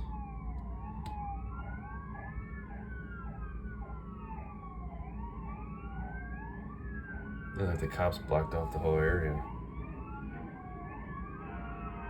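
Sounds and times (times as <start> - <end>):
siren fast yelp: 0.0 - 12.0
siren slow wail: 0.0 - 12.0.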